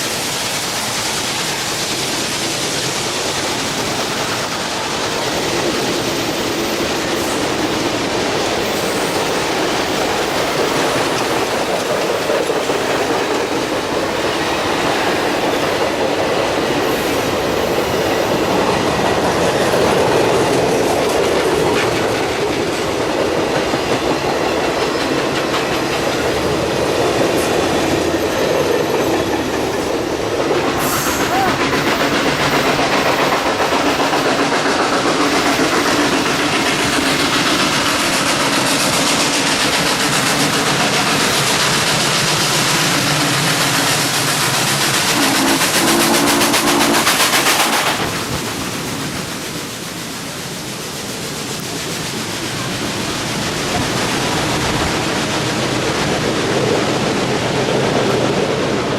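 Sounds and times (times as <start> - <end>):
train wheels clacking on rails: 0.0 - 58.9.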